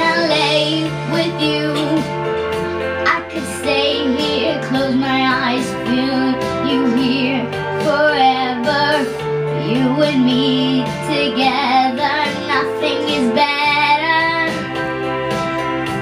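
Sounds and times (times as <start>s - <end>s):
girl singing pop ballad: 0.0s - 15.5s
recorded backing track chords: 0.0s - 16.0s.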